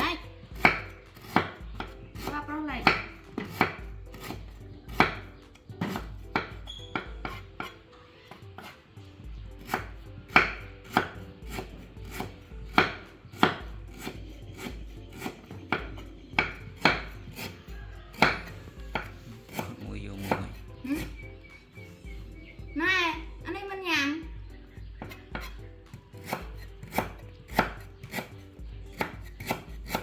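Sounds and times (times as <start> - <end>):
knife chopping on cutting board: 0.6 - 8.8, 9.6 - 21.2, 25.0 - 30.0.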